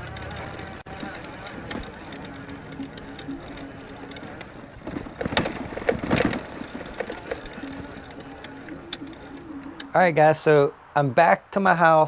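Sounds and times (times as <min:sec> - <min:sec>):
rustling: 0:00.0 - 0:09.9
electric bike motor humming: 0:00.0 - 0:10.0.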